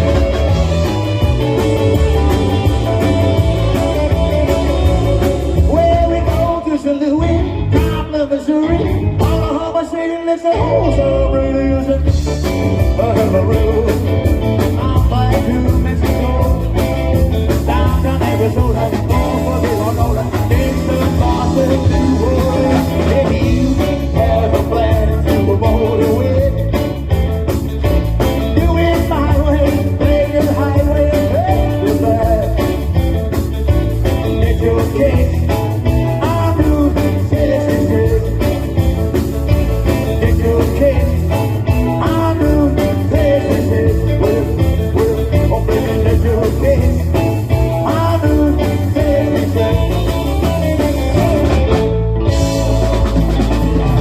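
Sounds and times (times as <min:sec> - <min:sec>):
person singing: 0:00.0 - 0:27.0, 0:28.2 - 0:33.0, 0:34.1 - 0:39.0, 0:39.9 - 0:54.0
guitar: 0:00.0 - 0:54.0
rock and roll band playing: 0:00.0 - 0:54.0.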